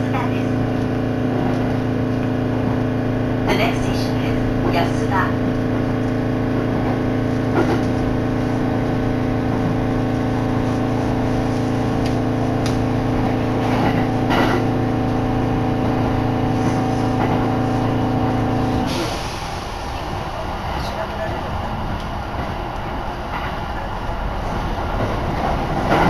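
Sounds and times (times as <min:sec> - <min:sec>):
electric train hum: 0:00.0 - 0:26.0.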